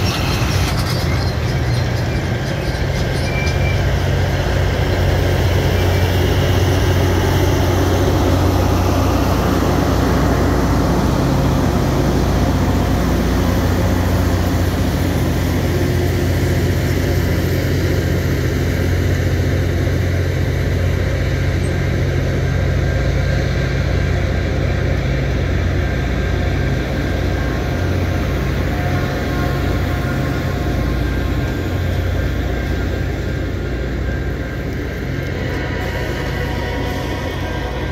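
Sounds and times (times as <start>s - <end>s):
low drone: 0.0s - 37.9s
train wheels rumbling on rails: 0.0s - 37.9s.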